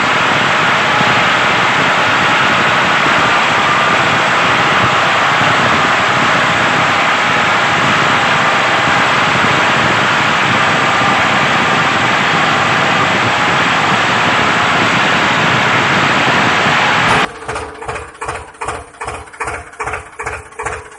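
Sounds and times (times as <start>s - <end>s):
loud mechanical running noise: 0.0s - 20.9s.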